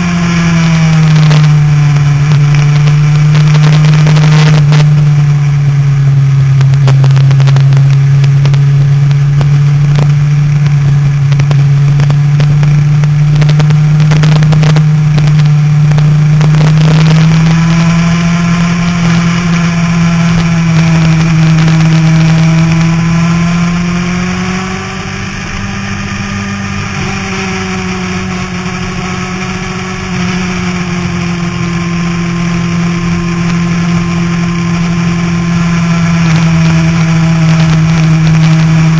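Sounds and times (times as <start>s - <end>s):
motorcycle engine running hard: 0.0s - 38.9s.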